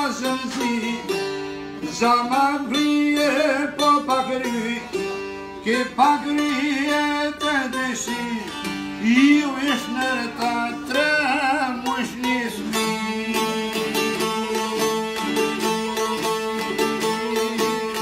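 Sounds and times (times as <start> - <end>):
man singing folk song: 0.0 - 18.0
plucked lute: 0.0 - 18.0.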